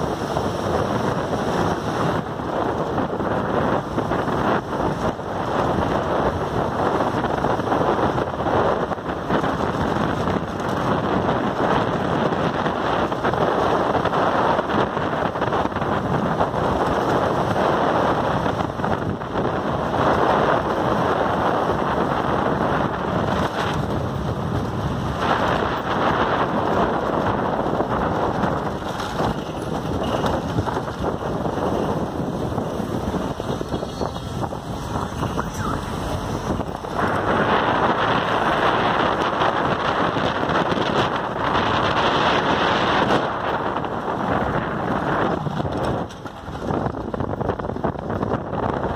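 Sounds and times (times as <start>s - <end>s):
road and engine noise: 0.0s - 48.9s
wind rushing on microphone: 0.0s - 48.9s.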